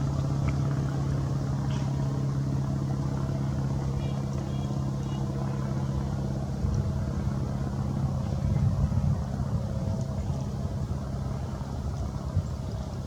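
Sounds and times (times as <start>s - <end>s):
droning hum: 0.0s - 13.0s
low background rumble: 0.0s - 13.0s.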